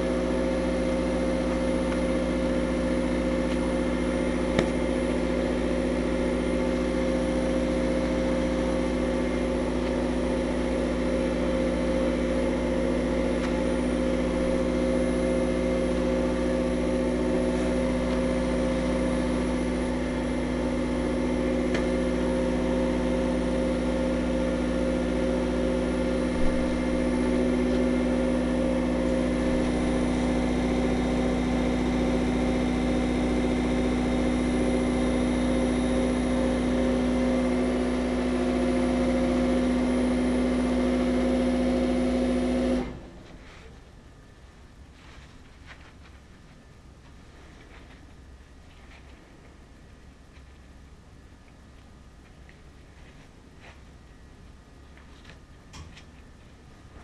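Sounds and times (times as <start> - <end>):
machinery hum: 0.0 - 57.0.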